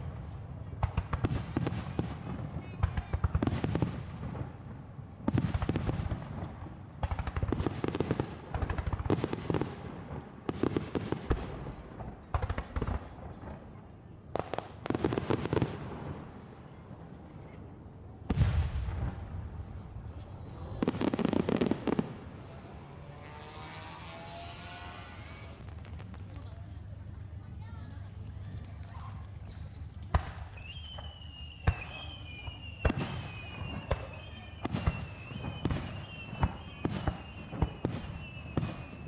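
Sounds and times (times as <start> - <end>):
high-pitched insect trill: 0.0 - 39.0
fireworks crackling: 0.8 - 16.6, 18.3 - 39.0.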